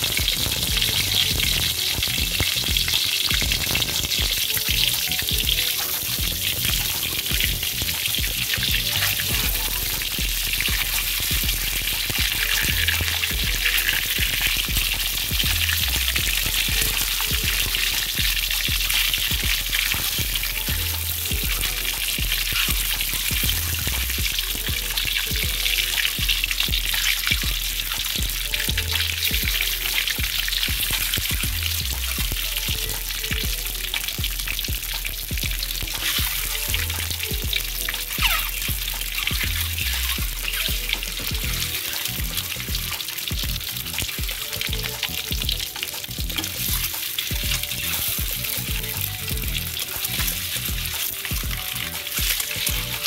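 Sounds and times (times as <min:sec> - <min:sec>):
background music with bass: 0:00.0 - 0:53.0
hot oil sizzling: 0:00.0 - 0:53.0.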